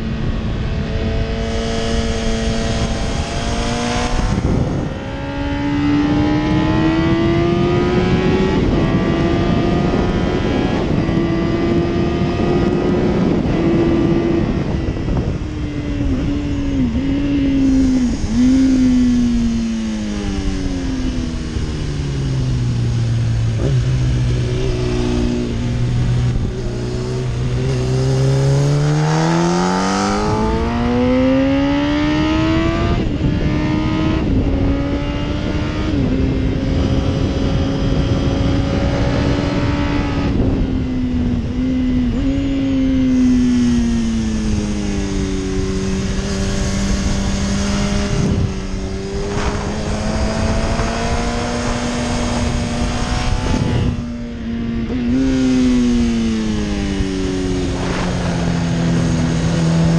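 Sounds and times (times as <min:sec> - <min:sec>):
motorcycle engine at speed: 0:00.0 - 0:59.9.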